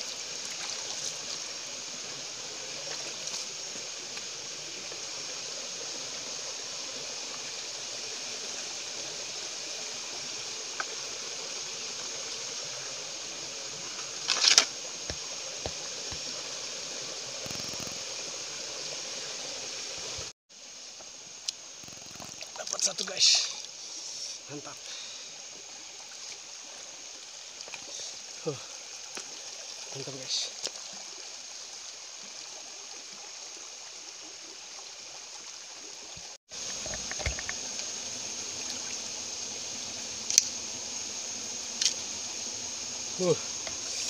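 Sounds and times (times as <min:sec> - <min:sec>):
flowing river water: 0:00.0 - 0:44.0.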